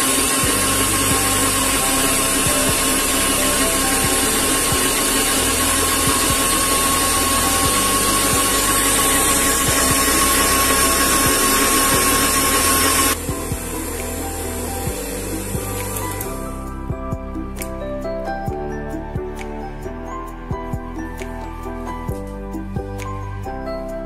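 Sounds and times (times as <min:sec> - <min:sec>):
kitchen appliance motor whining: 0:00.0 - 0:20.2
background music: 0:00.0 - 0:24.0.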